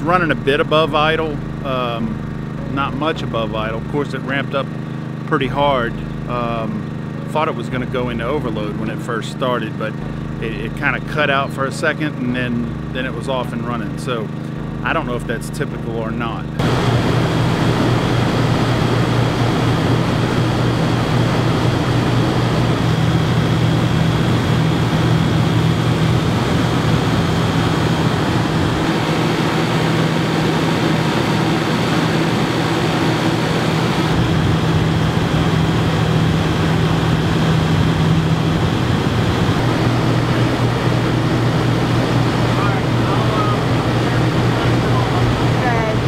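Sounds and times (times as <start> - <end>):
compressor humming: 0.0 - 46.0
fan rushing: 0.0 - 46.0.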